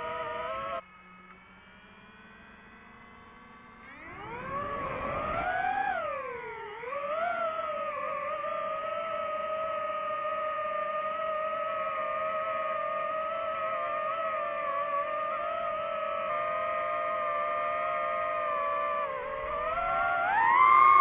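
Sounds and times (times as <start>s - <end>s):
drone motors whining: 0.0s - 1.3s, 3.4s - 21.0s.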